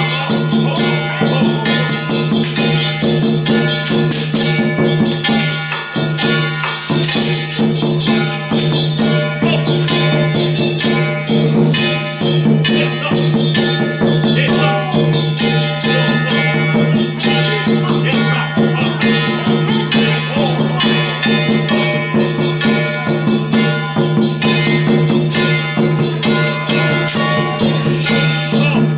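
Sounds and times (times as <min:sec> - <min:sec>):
cymbal and percussion strokes: 0:00.0 - 0:28.9.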